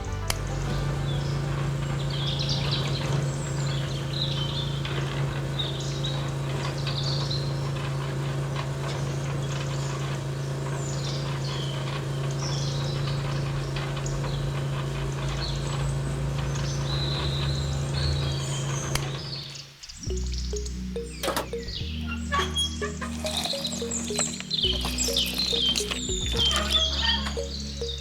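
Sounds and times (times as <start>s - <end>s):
birds chirping: 0.0s - 28.0s
low mechanical hum: 0.0s - 28.0s.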